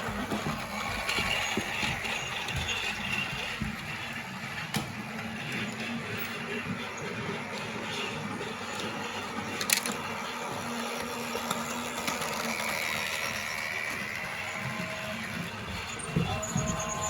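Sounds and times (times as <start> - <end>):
toy train motor whirring: 0.0 - 17.0.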